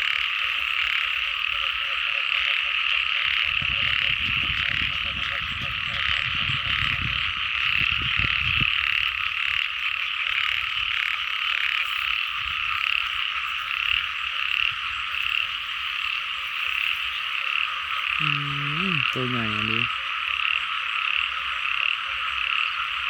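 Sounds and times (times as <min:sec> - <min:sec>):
chorus of frogs calling: 0:00.0 - 0:23.0.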